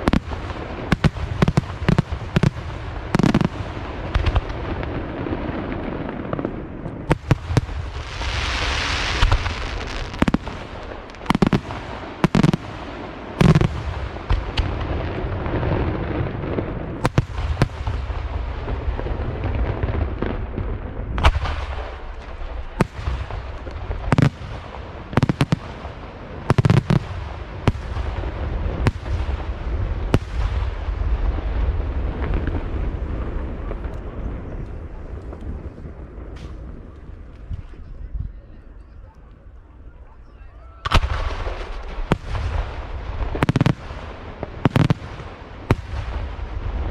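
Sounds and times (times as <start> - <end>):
fireworks bangs: 0.0 - 38.2, 40.8 - 46.9.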